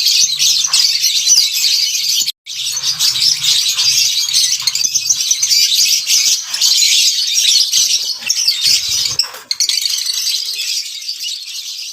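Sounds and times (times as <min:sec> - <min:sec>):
lovebirds chirping and squeaking: 0:00.0 - 0:11.9.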